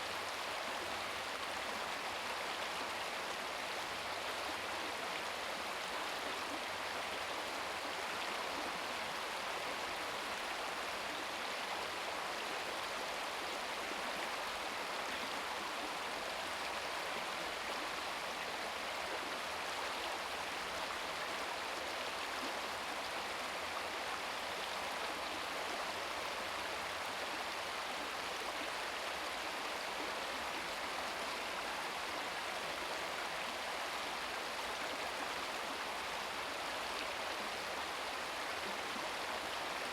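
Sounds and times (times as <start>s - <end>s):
brook babbling over rocks: 0.0s - 39.9s.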